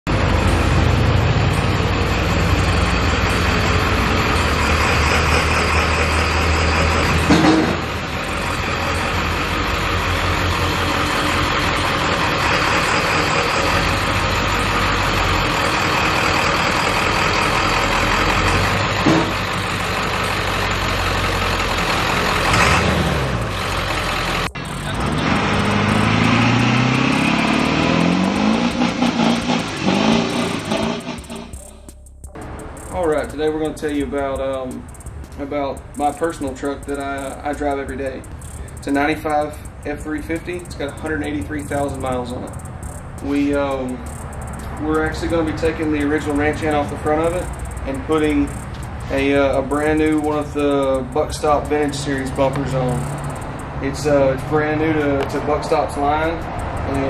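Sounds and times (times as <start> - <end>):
diesel truck engine running: 0.1 - 57.0
engine revving: 0.1 - 57.0.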